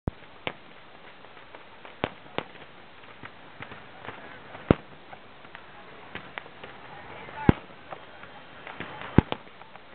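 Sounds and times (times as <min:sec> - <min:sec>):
faint pops: 0:00.1 - 0:09.9.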